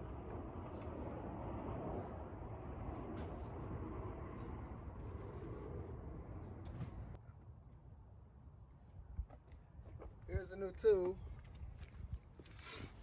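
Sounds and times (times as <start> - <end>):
airplane rumble overhead: 0.0 - 13.0.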